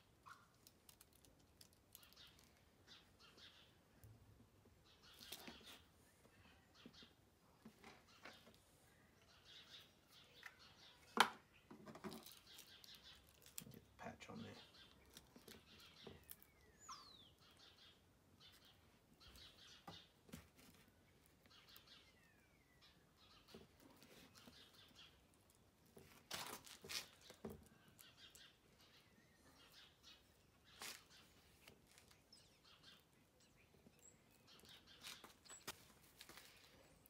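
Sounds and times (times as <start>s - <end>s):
faint birds calling: 1.6s - 37.0s.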